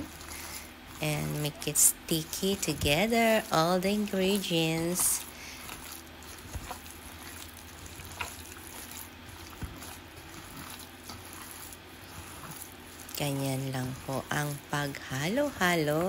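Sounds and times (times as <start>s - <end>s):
wet squishing of kneaded meat: 0.0s - 16.0s.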